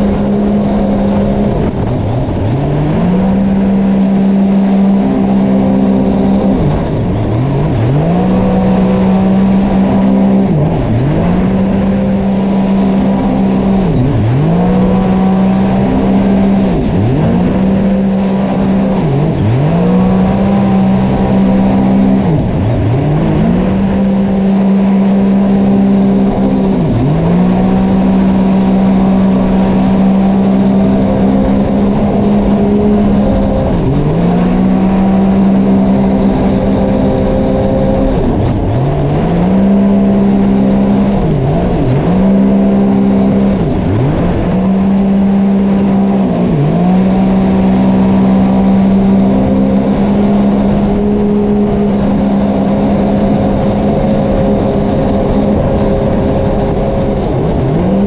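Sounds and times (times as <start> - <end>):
jet ski engine revving: 0.0 - 58.0.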